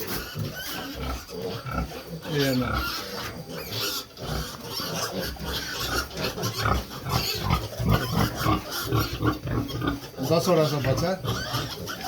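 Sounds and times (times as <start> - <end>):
pigs grunting: 0.0 - 12.0.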